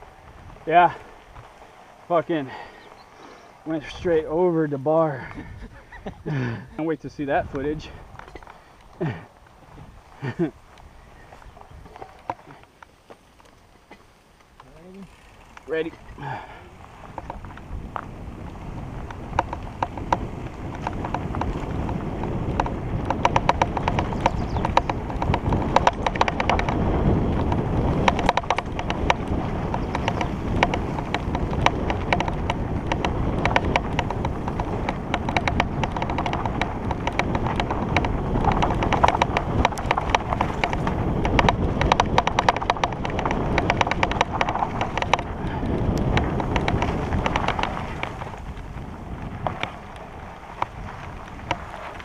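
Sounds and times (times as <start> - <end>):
bike clicks and rattles: 0.0 - 52.0
wind and tyre rumble: 0.0 - 52.0.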